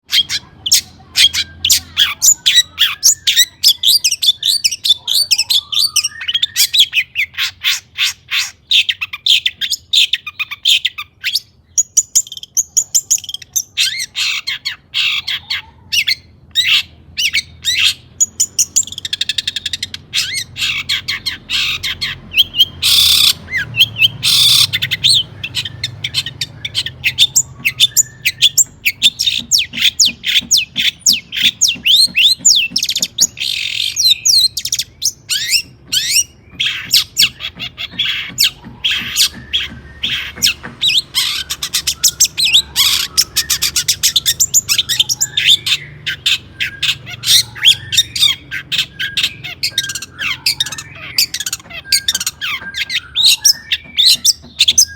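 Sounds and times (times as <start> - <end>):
bird chattering song: 0.0 - 54.9
harsh rasping bird calls: 0.0 - 54.9.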